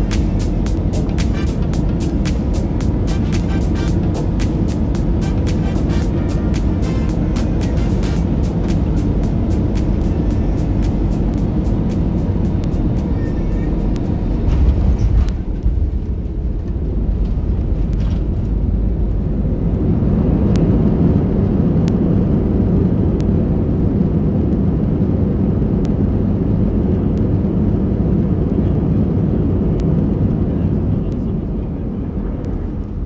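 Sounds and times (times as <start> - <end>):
aircraft engines rumbling: 0.0 - 33.0
aircraft rolling on runway: 0.0 - 33.0.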